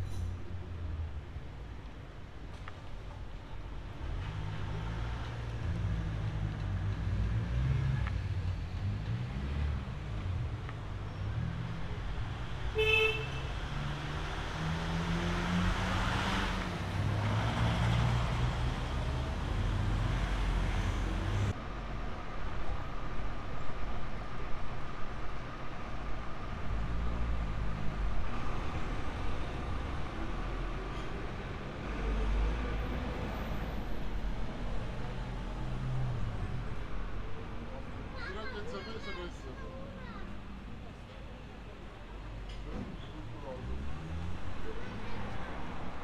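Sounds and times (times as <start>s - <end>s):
vehicles passing: 0.0s - 46.0s.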